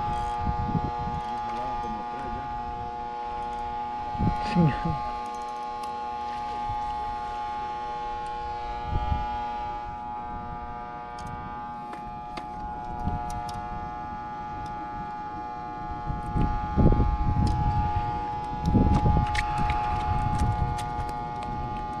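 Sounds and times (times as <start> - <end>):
machine-like steady hum: 0.0 - 22.0.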